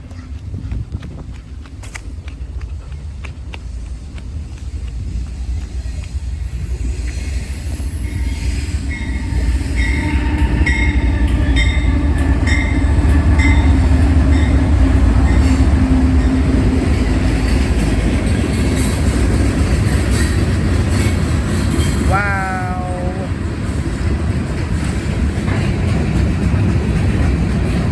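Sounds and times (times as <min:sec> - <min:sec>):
freight train passing: 0:00.0 - 0:27.9.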